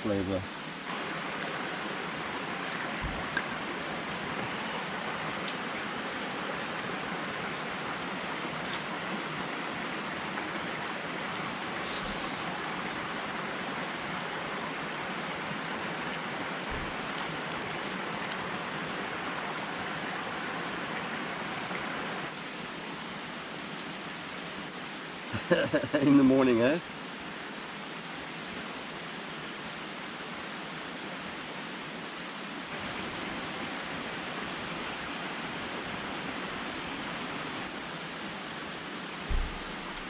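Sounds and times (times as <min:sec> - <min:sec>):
mountain stream rushing: 0:00.0 - 0:40.0.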